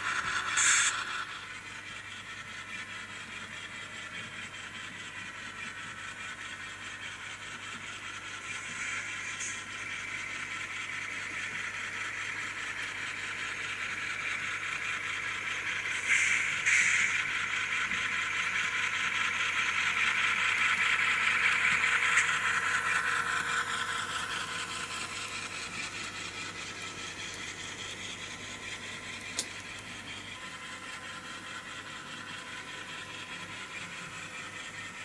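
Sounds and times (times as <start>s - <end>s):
model locomotive diesel sound: 0.0s - 35.0s.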